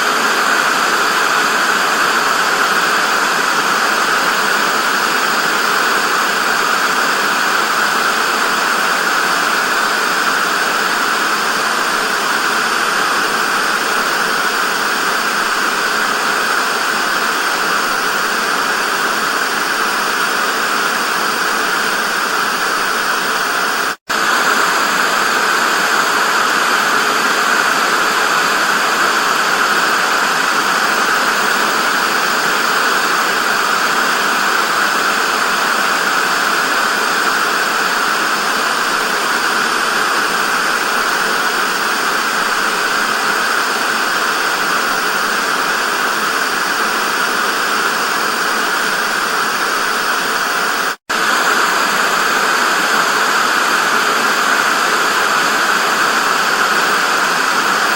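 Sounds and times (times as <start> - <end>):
tv static hiss: 0.0 - 57.9.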